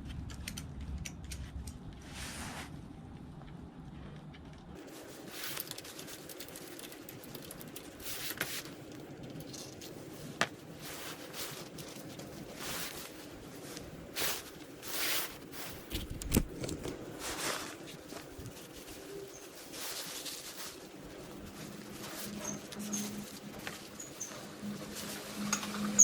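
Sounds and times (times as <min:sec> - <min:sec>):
scrapes and rustles of parts: 0:04.8 - 0:26.0.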